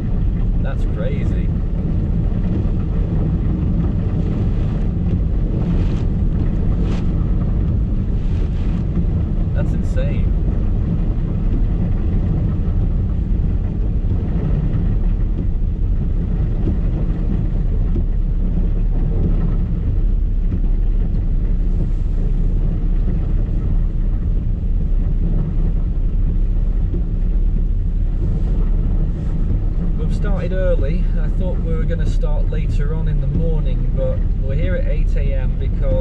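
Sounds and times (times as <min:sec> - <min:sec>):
car interior rumble: 0:00.0 - 0:36.0
heavy rain: 0:00.0 - 0:36.0.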